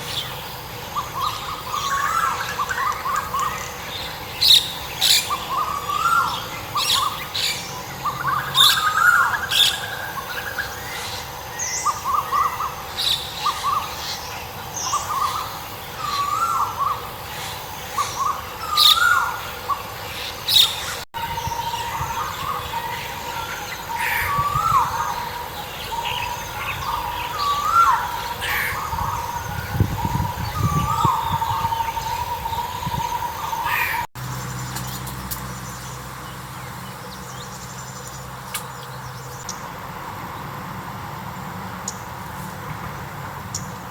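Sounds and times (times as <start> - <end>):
birds high chirps: 0.0 - 40.6.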